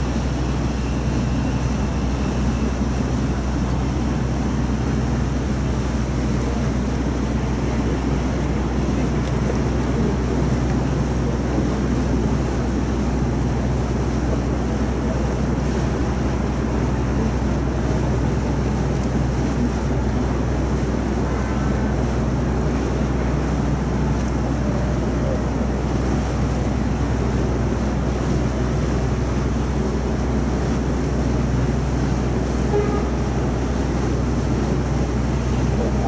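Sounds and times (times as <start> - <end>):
boat engine droning: 0.0 - 36.0
water rushing: 0.0 - 36.0
wind: 0.0 - 36.0.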